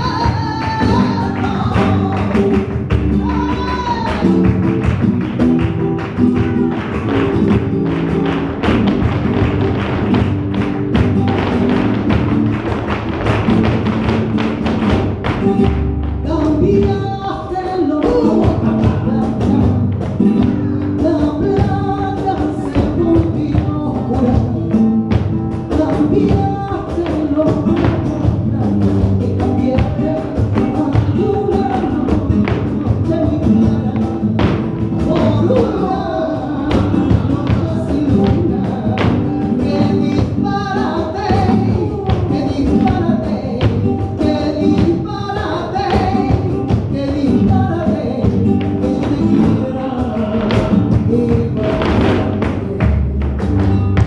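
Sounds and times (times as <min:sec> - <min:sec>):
flamenco guitar: 0:00.0 - 0:54.0
flamenco singing: 0:00.0 - 0:54.0.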